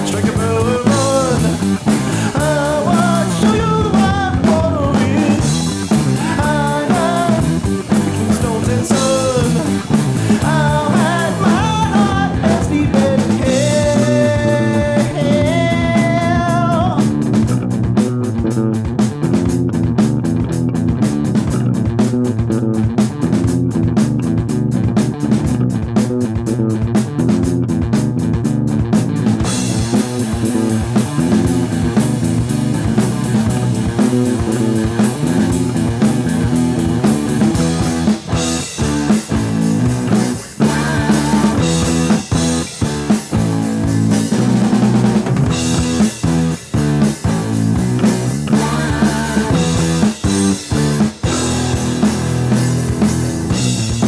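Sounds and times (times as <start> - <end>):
bass guitar: 0.0 - 54.0
drum beat: 0.0 - 54.0
electric guitar: 0.0 - 54.0.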